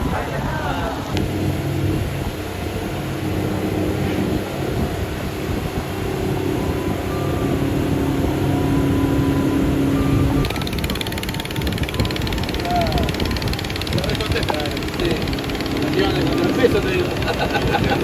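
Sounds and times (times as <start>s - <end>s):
boat motor droning: 0.0s - 18.0s
wind and water hum: 0.0s - 18.0s.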